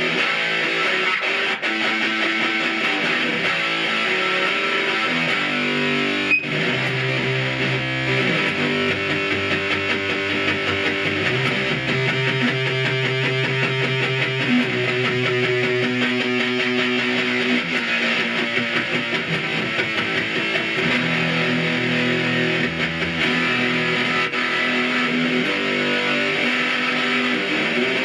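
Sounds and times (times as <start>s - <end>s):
distorted electric guitar: 0.0s - 28.0s.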